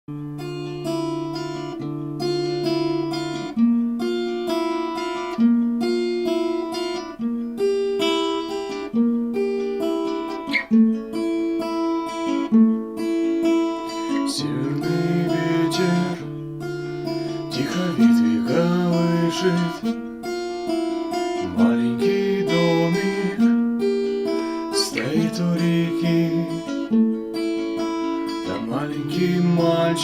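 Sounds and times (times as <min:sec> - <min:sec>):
acoustic guitar strumming chords: 0:00.1 - 0:30.0.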